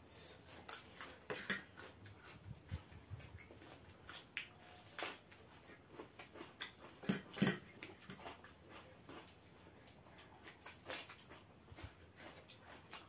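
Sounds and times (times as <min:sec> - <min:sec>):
chewing and mouth noises: 0:00.3 - 0:13.0.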